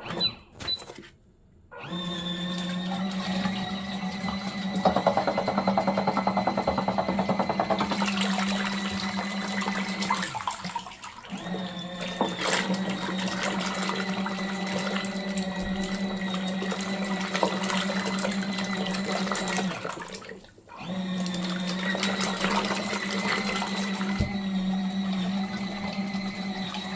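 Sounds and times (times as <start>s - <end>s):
washing machine motor hum: 1.7s - 26.9s
water churning and sloshing: 2.5s - 26.9s.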